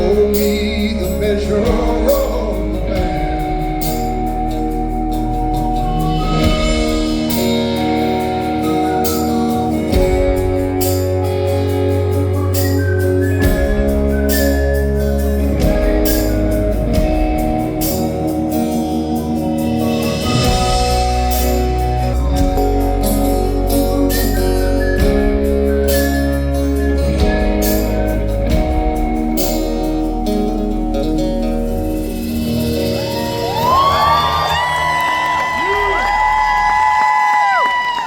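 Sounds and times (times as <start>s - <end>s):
guitar chords: 0.0s - 37.0s
low bass notes: 0.0s - 37.0s.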